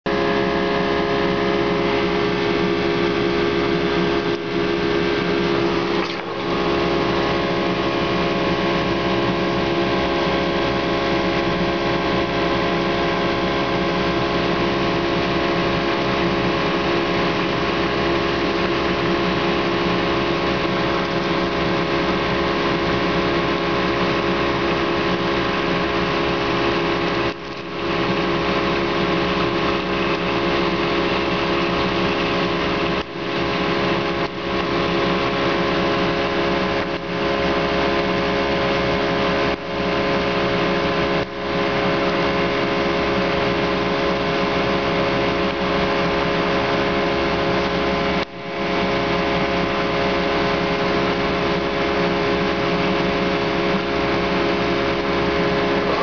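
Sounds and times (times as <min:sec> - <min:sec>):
machine droning: 0:00.1 - 0:56.0
multi-tone hum: 0:00.1 - 0:56.0.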